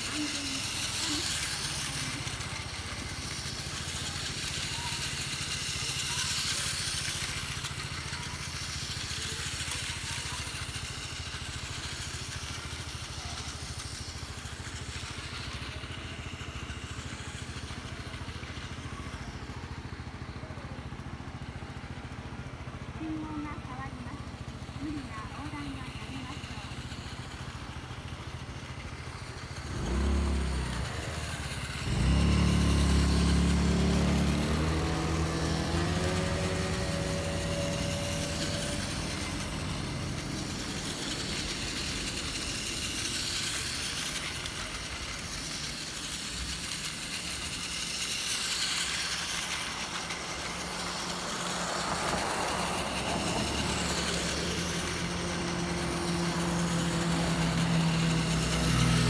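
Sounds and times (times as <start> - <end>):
vehicle engine pulling away: 0.0 - 59.0.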